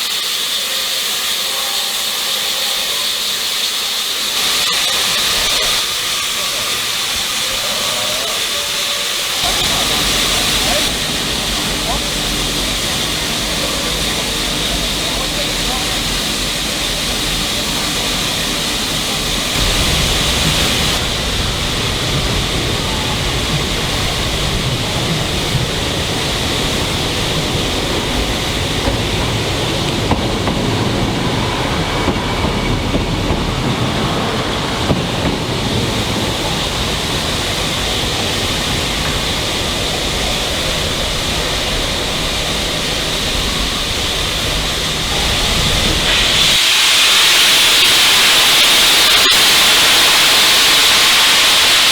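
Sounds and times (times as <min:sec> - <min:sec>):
train rumbling on rails: 0:00.0 - 0:51.9.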